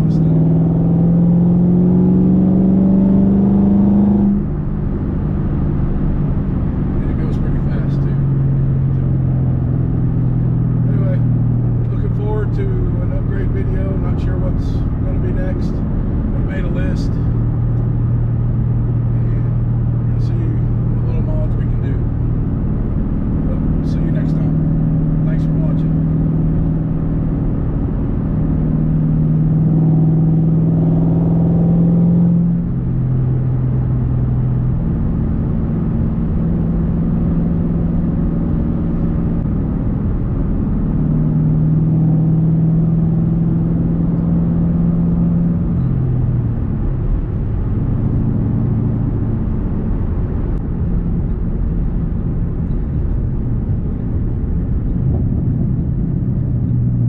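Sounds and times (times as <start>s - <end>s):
car engine driving: 0.0s - 57.0s.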